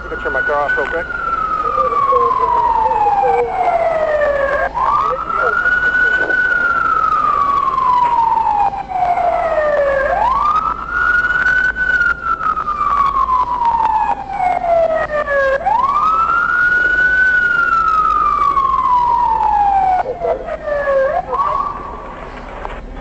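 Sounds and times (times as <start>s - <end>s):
police siren wailing: 0.0s - 23.0s.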